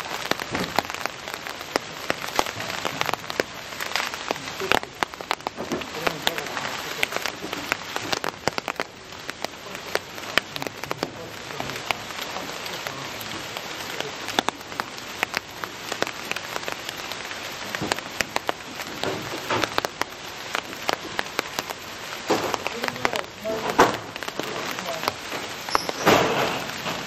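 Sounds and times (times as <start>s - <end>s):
rain hissing: 0.0s - 27.0s
raindrops ticking close by: 0.0s - 27.0s.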